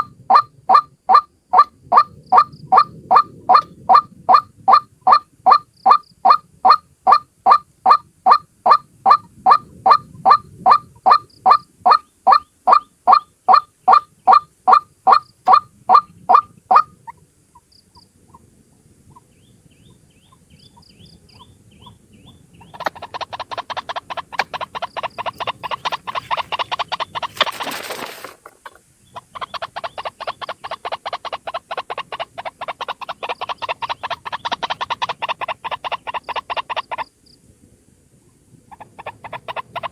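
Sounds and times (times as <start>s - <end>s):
waterhen calls: 0.0s - 37.1s, 38.7s - 39.9s.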